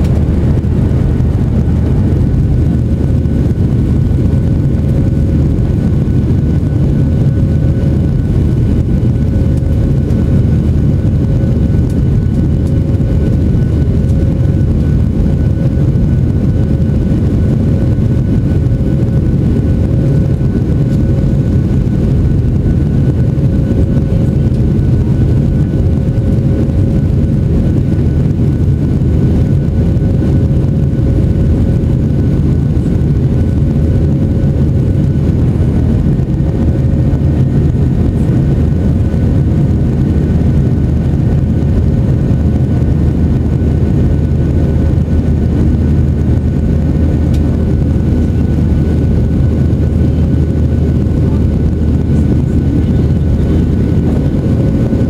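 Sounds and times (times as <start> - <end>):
faint steady whine: 0.0 - 55.0
jet engine cabin rumble: 0.0 - 55.0.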